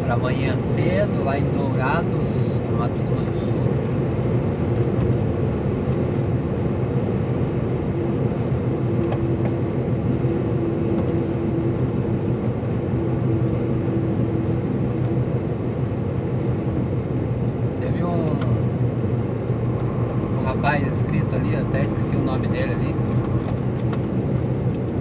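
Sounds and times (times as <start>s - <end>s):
truck engine and tyre drone: 0.0s - 25.0s.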